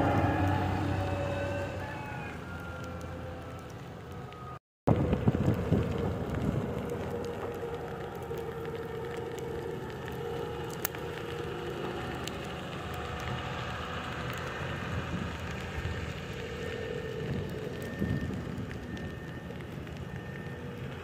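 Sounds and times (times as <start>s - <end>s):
wheel loader diesel engine whining: 0.0s - 21.0s.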